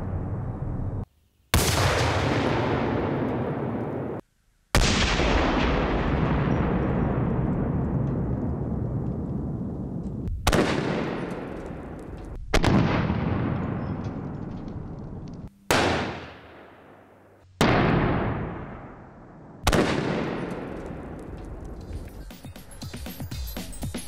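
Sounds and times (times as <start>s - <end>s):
gunshots: 1.6s - 4.2s, 4.8s - 15.0s, 15.7s - 23.2s.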